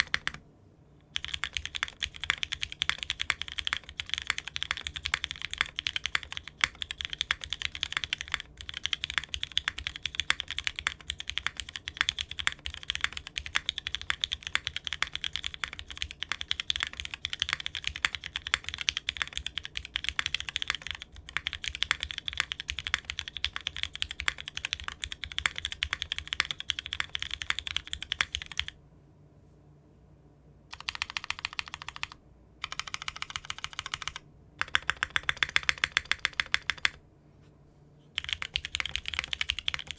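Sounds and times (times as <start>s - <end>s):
mechanical keyboard typing: 0.0s - 0.4s, 1.1s - 28.8s, 30.7s - 37.0s, 38.2s - 39.9s.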